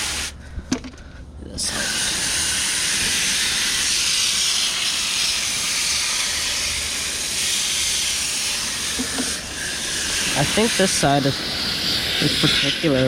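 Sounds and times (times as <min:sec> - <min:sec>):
hose spraying water on metal fins: 0:00.0 - 0:00.3, 0:01.7 - 0:13.0.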